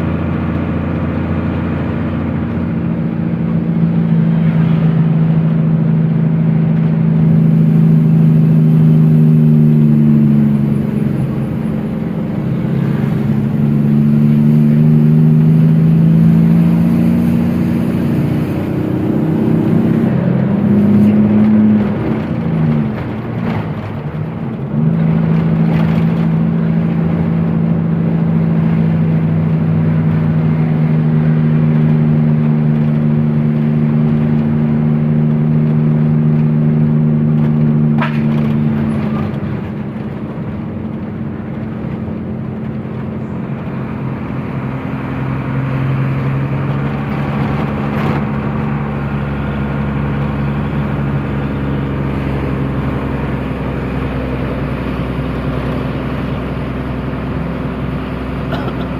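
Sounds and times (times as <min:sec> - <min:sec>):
truck engine running: 0:00.0 - 0:58.9.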